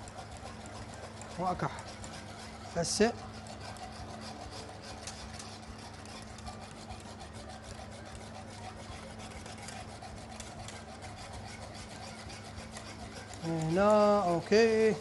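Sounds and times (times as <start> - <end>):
whisk scraping inside a pot: 0.0 - 15.0.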